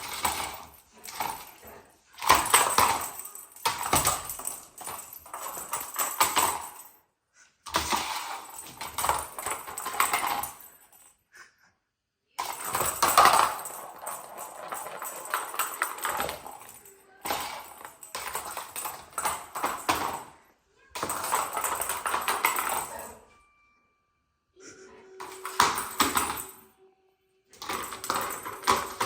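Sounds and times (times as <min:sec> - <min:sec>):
dog toy rattling and clattering: 0:00.0 - 0:06.8, 0:07.7 - 0:10.9, 0:12.4 - 0:23.2, 0:25.2 - 0:26.6, 0:27.6 - 0:29.0.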